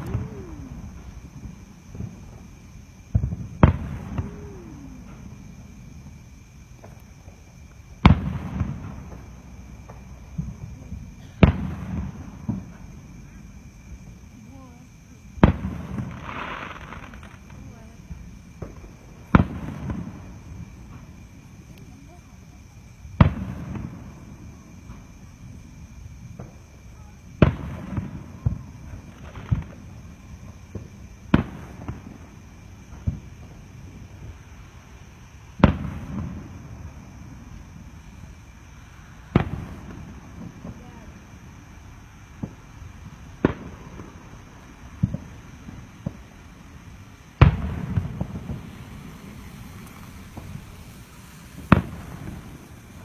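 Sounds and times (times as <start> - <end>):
fireworks booming: 0.0 - 53.0.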